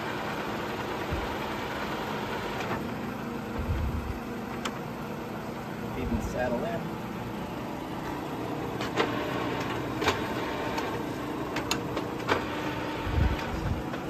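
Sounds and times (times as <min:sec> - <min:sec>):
milling machine gear hum: 0:00.0 - 0:14.0.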